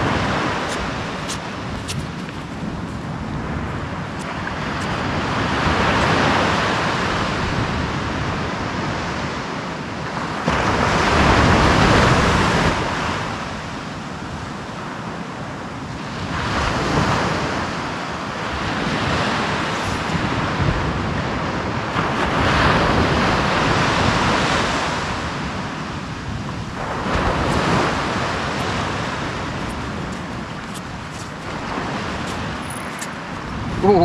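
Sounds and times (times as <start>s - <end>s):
surf breaking on sandy beach: 0.0s - 15.0s, 15.9s - 34.0s
wind buffeting microphone: 0.0s - 34.0s.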